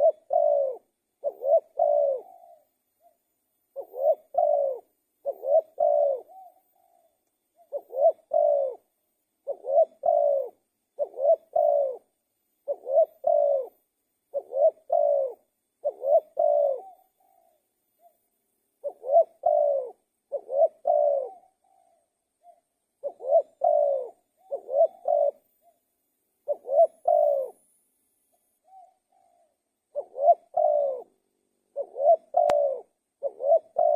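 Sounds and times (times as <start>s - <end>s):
dove cooing: 0.0s - 27.8s, 28.4s - 33.9s.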